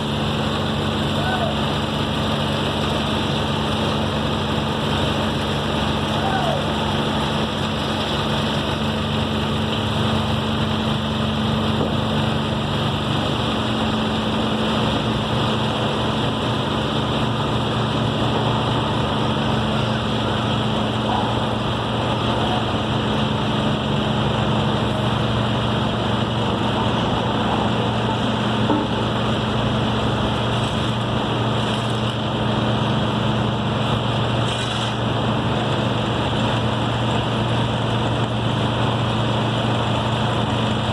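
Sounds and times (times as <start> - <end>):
machinery engine droning: 0.0 - 40.9.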